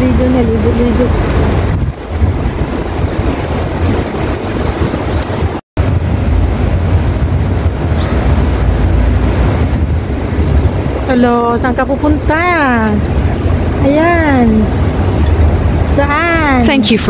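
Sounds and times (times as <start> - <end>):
fountain water rushing: 0.0 - 17.0
wind buffeting microphone: 0.0 - 17.0.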